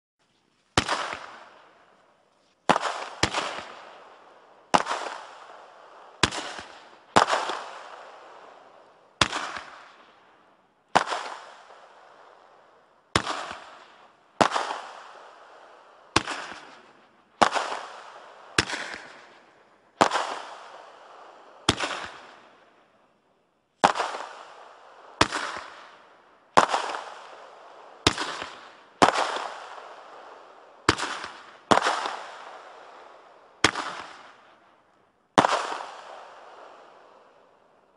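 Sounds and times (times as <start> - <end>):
fireworks bangs: 0.7 - 2.0, 2.6 - 10.2, 10.9 - 12.2, 13.1 - 22.7, 23.8 - 34.6, 35.3 - 37.2.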